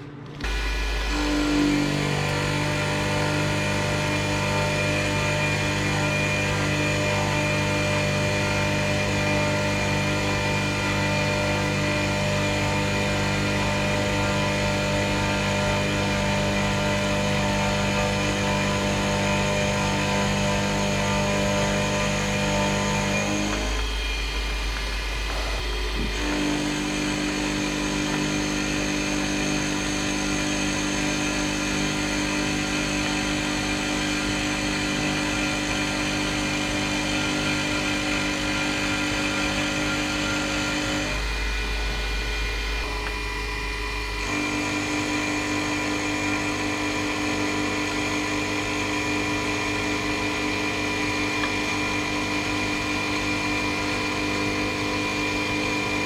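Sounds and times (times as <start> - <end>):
machine tool motor hum and whine: 0.0 - 56.0.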